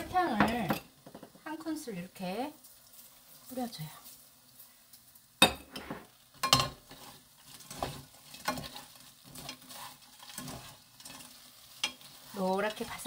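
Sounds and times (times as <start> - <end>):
spatulas stir-frying in a pan: 0.0 - 13.0.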